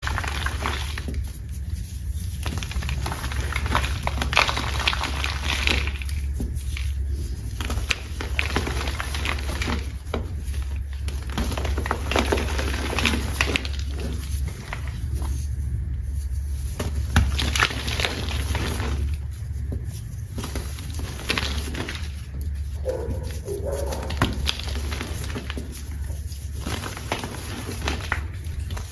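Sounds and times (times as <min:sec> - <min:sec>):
chalk crumbling and crunching: 0:00.0 - 0:28.9
low hum: 0:00.0 - 0:28.9.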